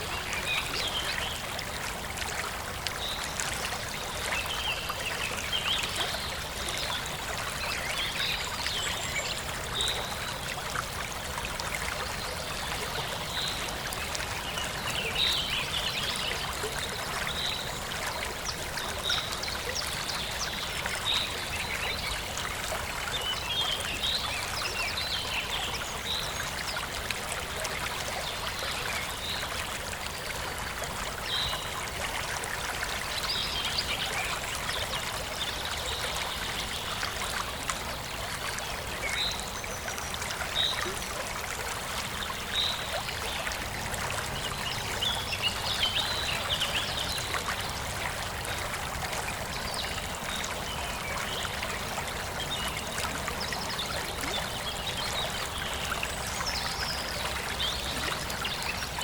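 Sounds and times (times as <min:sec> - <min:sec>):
stream flowing and trickling: 0:00.0 - 0:59.0.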